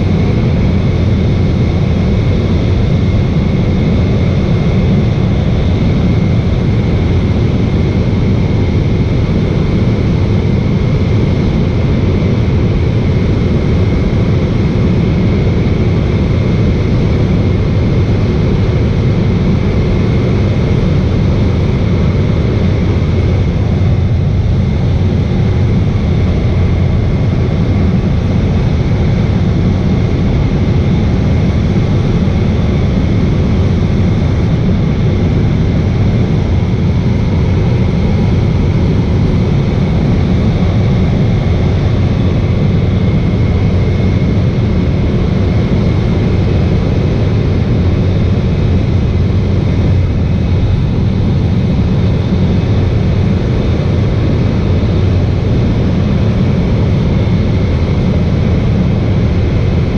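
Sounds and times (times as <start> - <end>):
floatplane engine and propeller droning: 0.0 - 59.9.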